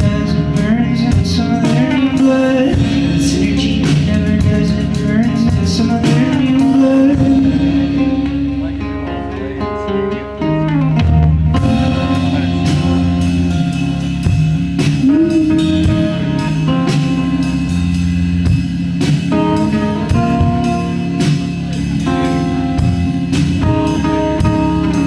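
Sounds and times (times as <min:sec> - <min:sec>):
drum beat: 0:00.0 - 0:08.6, 0:11.1 - 0:25.0
electric guitar: 0:00.0 - 0:25.0.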